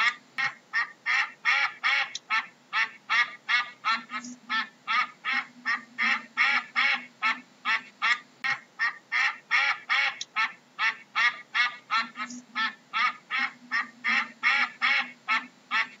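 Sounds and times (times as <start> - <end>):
duck quacking: 0.0 - 16.0.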